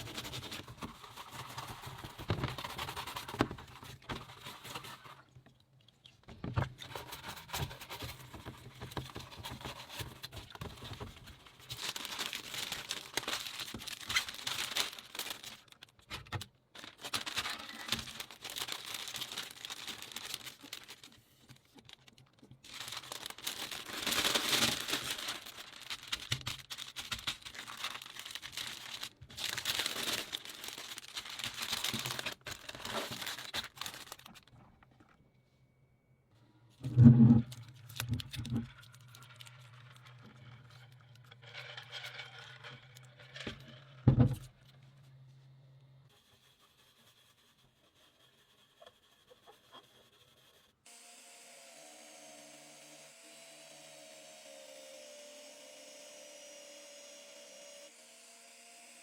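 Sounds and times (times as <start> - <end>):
crinkling and rustling handling: 0.0 - 35.4, 36.8 - 50.6.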